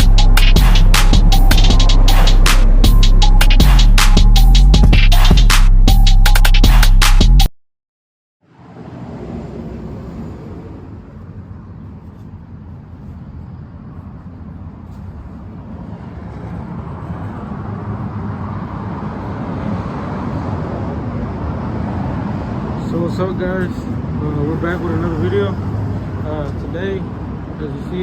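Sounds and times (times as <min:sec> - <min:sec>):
road traffic rumble: 0:00.0 - 0:07.5, 0:08.4 - 0:28.0.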